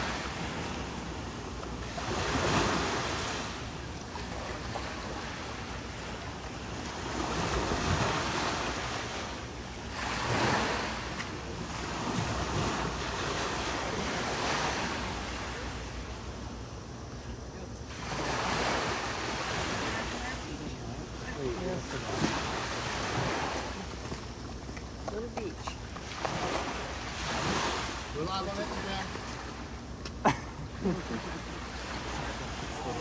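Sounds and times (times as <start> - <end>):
ocean waves washing in: 0.0 - 33.0.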